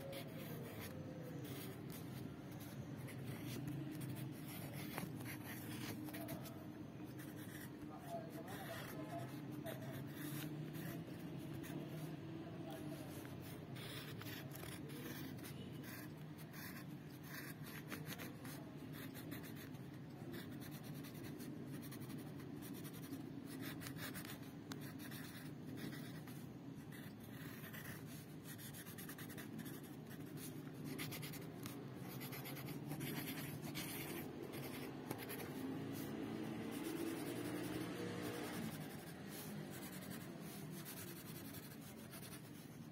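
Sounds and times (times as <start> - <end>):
marker scratching on paper: 0.0 - 42.9.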